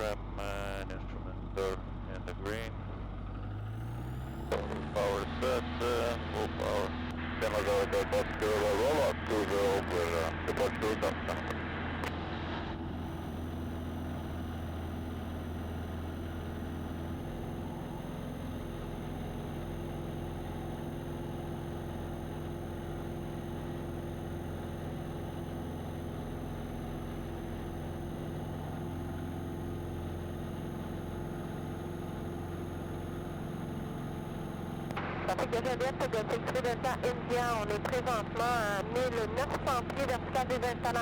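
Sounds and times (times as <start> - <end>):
light airplane engine drone: 0.0 - 41.0.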